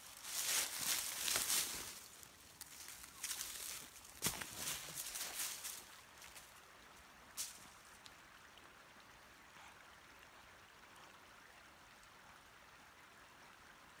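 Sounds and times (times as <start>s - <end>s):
faint creek rushing: 0.0s - 14.0s.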